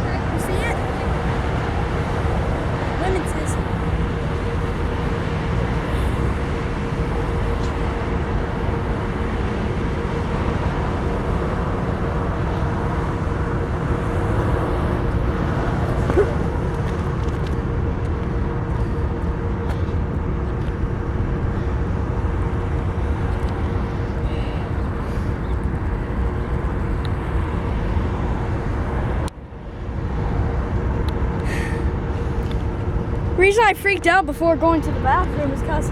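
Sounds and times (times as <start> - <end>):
faint steady whine: 0.0 - 35.9
freight train rumbling past: 0.0 - 35.9.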